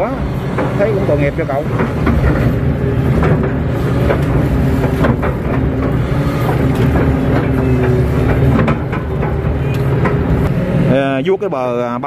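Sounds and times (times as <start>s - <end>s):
excavator diesel engine running: 0.0s - 12.0s
short clanks and knocks: 0.5s - 10.5s.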